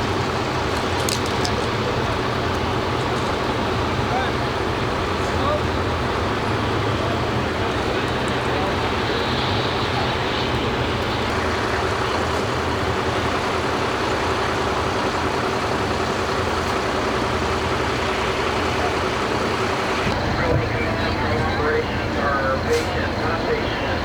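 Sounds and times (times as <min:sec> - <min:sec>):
engine drone: 0:00.0 - 0:24.0
road traffic noise: 0:00.0 - 0:24.0.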